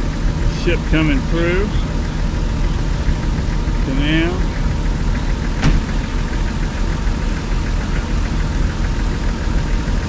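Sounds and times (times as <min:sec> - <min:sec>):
engine idling rumble: 0:00.0 - 0:10.0.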